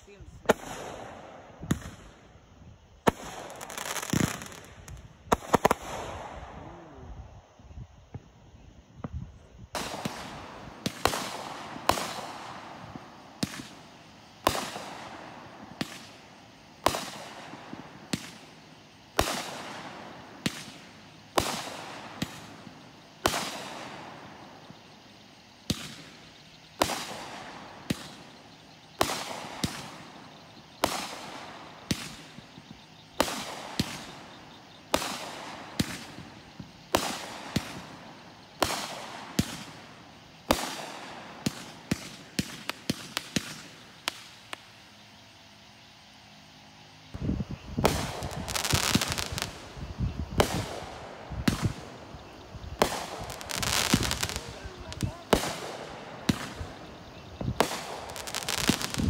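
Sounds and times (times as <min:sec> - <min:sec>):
fireworks bangs: 0:00.0 - 0:07.0, 0:09.0 - 0:44.8, 0:47.1 - 0:59.0.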